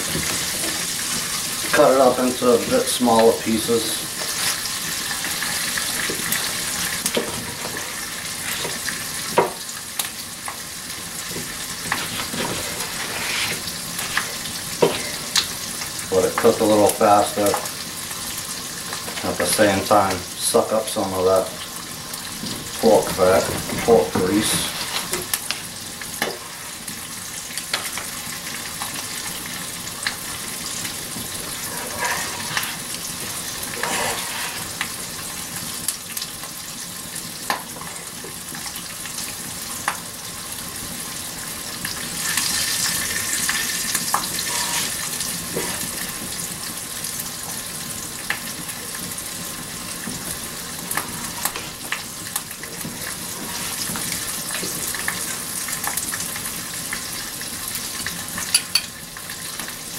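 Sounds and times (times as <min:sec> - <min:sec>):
pork sizzling in a pan: 0:00.0 - 0:59.9.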